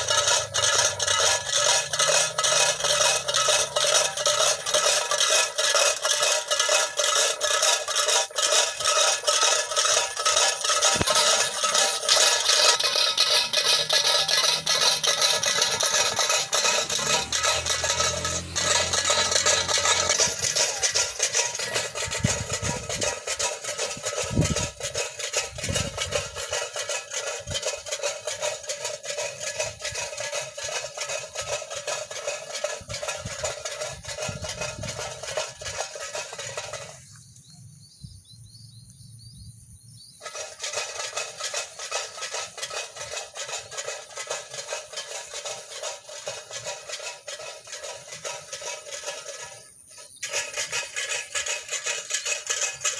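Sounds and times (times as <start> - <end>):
tin cans with stones rattling: 0.0 - 37.6, 40.0 - 52.9.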